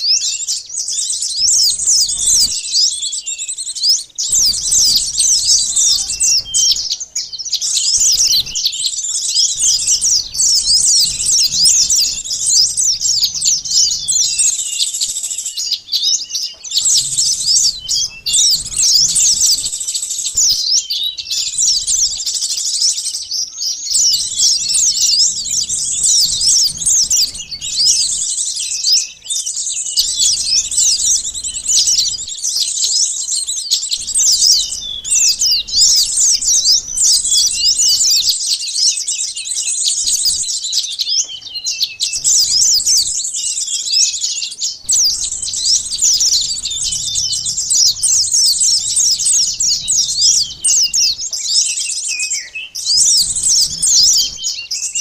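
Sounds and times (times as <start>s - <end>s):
songbird flock chirping: 0.0s - 55.0s.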